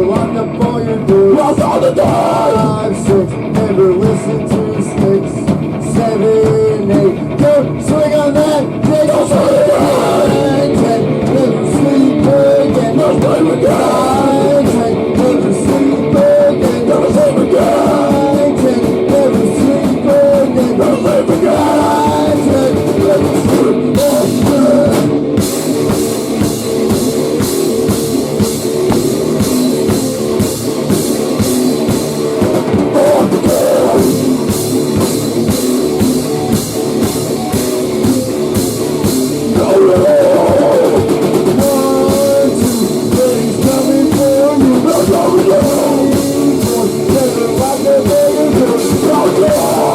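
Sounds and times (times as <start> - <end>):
person singing: 0.0 - 25.1, 32.7 - 38.3, 39.1 - 49.9
rock band playing: 0.0 - 49.9.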